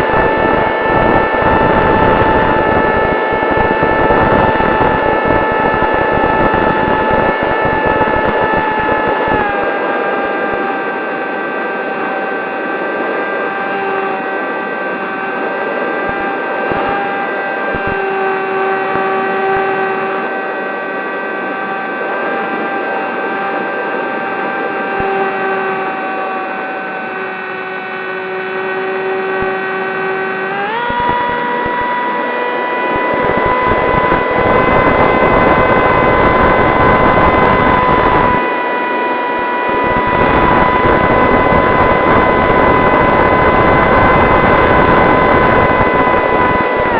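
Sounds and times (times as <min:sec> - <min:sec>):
rc plane motor whine: 0:00.0 - 0:46.9
wind rumble on microphone: 0:00.0 - 0:46.9.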